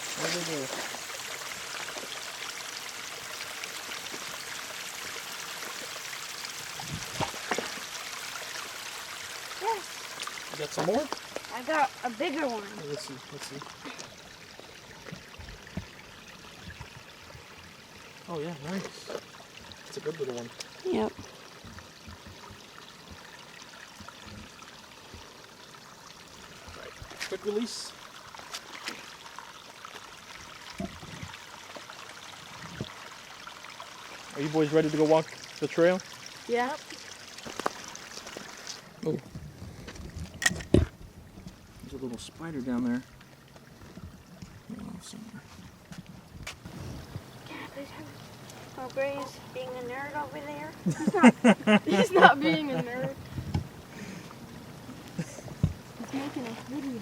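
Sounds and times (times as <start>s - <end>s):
creek water trickling: 0.0s - 57.0s.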